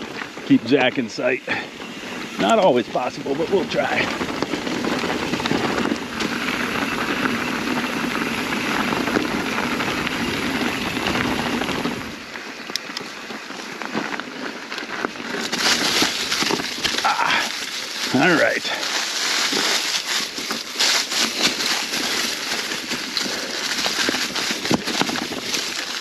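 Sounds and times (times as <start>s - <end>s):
bike rattling: 0.0s - 26.0s
bike tyres crunching leaves and stones: 0.0s - 26.0s.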